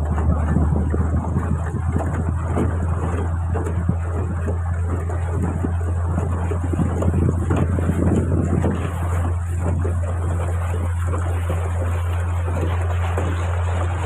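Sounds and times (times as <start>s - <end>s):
boat engine droning: 0.0s - 14.0s
wind buffeting microphone: 0.0s - 14.0s.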